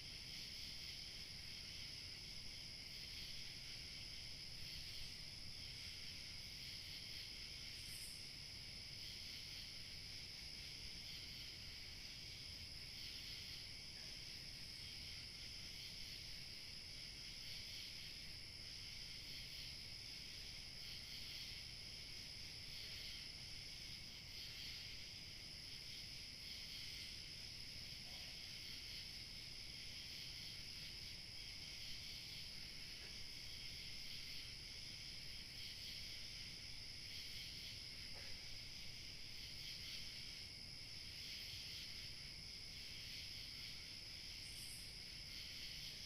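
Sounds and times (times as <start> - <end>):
crickets and insects trilling: 0.0 - 46.0.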